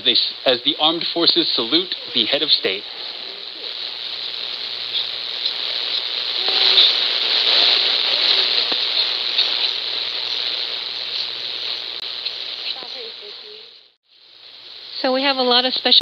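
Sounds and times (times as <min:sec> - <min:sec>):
faint radio broadcast: 0:00.0 - 0:14.0
shortwave radio static hiss: 0:00.0 - 0:16.0.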